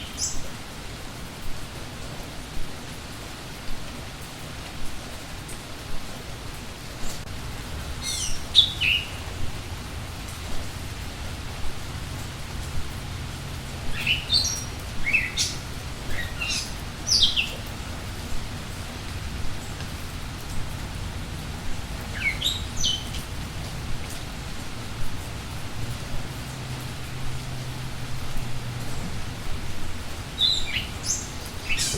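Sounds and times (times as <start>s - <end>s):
songbirds chirping: 0.0s - 1.4s, 6.5s - 31.9s
rain hiss: 0.0s - 31.9s.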